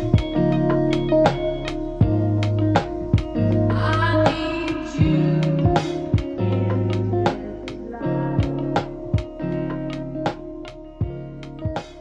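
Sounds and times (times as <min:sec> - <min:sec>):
held low bass notes: 0:00.0 - 0:11.8
plucked guitar notes: 0:00.0 - 0:12.0.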